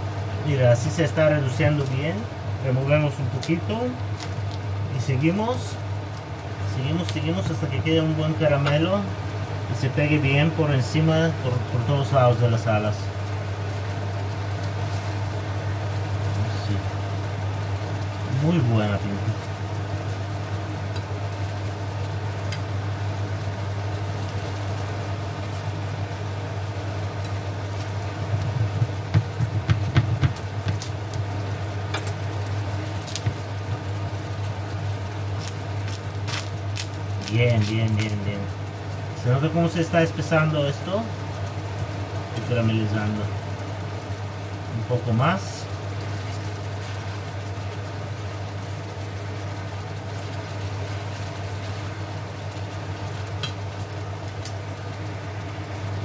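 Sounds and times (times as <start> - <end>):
sauce boiling in a frying pan: 0.0 - 56.0
steady low hum: 0.0 - 56.0.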